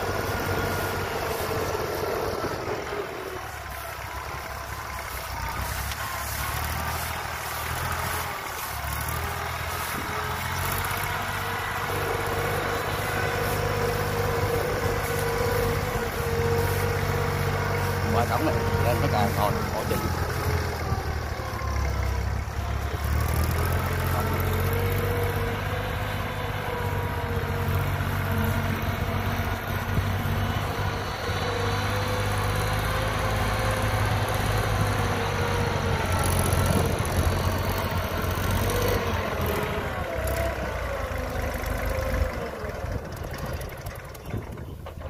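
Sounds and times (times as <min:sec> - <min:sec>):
diesel tractor engine running hard: 0:00.0 - 0:45.0.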